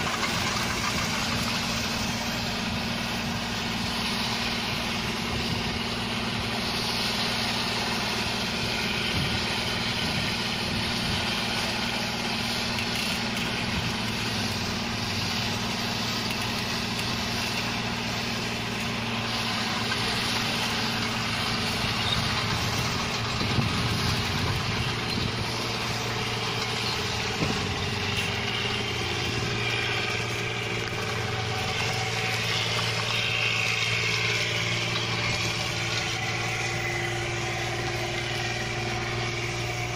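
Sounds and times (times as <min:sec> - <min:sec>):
combine harvester engine drone: 0:00.0 - 0:39.9
mechanical whir: 0:00.0 - 0:39.9.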